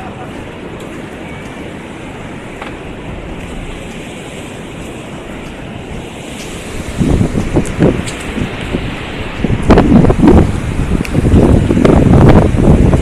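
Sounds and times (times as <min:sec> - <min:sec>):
wind on microphone: 0:02.3 - 0:13.0.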